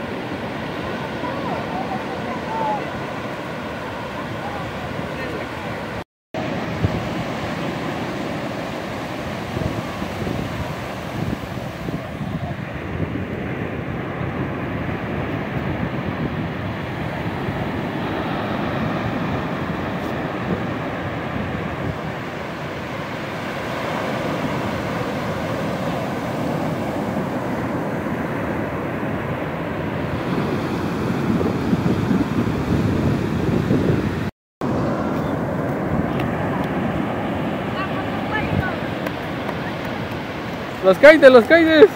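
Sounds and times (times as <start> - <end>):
surf breaking on sand: 0.0 - 41.9
wind buffeting microphone: 0.0 - 41.9.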